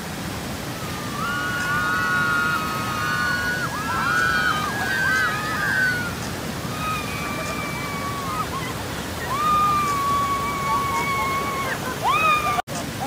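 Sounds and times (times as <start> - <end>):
rushing white water: 0.0 - 13.0
people screaming: 0.8 - 12.7.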